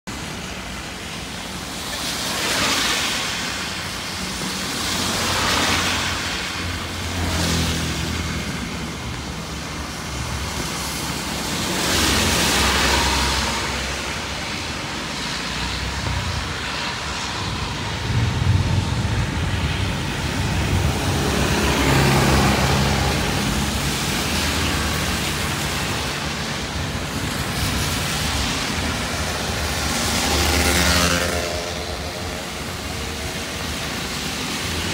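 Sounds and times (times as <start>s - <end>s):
vehicles passing on wet road: 0.1s - 34.9s.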